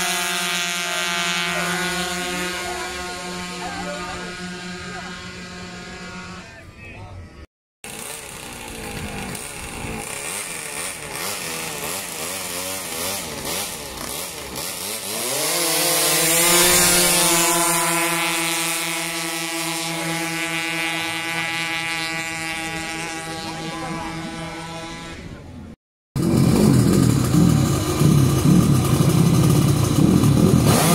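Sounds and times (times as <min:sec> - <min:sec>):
scooter engine pulling away: 0:00.0 - 0:06.5, 0:07.9 - 0:25.2, 0:26.2 - 0:30.9
scooter engines revving: 0:00.0 - 0:30.9.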